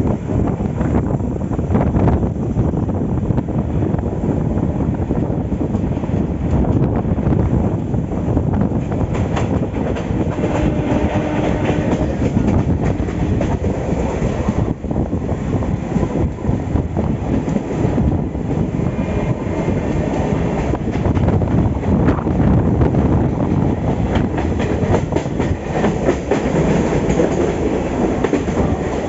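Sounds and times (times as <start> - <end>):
train clatter and knocks: 0.0 - 29.0
train wheels rumbling on rail: 0.0 - 29.0.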